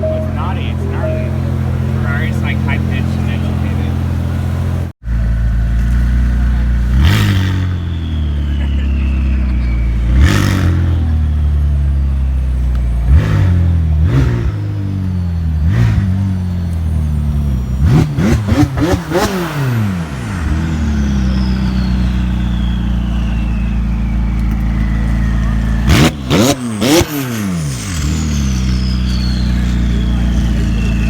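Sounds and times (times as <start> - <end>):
car engine idling: 0.0 - 31.0
engine revving: 0.0 - 31.0.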